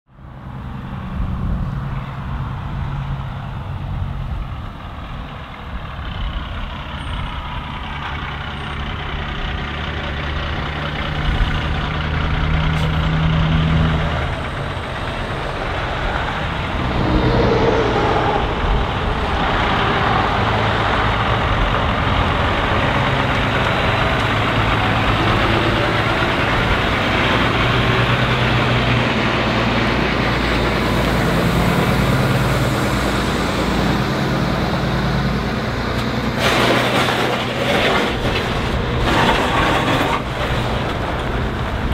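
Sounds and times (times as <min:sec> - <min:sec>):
diesel truck engine: 0:00.1 - 0:41.9
rushing road noise: 0:00.1 - 0:41.9.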